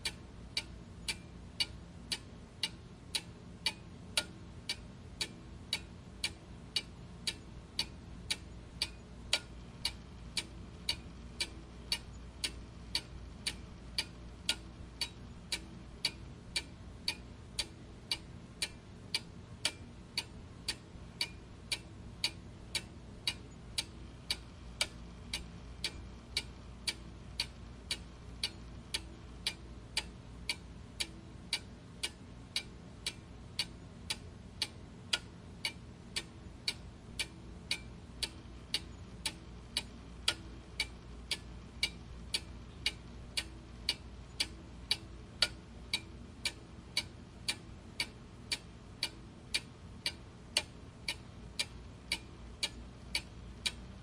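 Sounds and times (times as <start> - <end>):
clock ticking: 0.0 - 54.0
faint low hum: 0.0 - 54.0.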